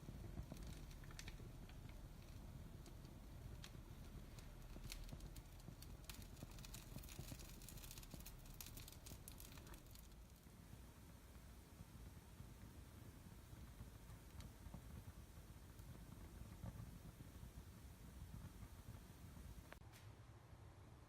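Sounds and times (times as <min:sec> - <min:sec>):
fire crackling with small pops: 0:00.0 - 0:19.8.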